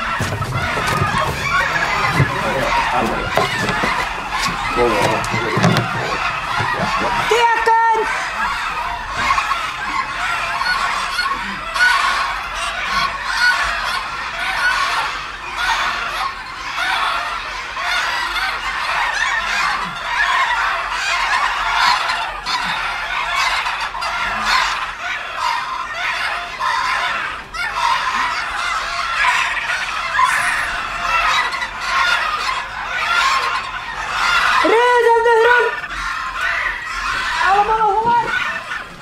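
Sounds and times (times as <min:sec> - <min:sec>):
bantam roosters crowing: 0:00.0 - 0:39.0.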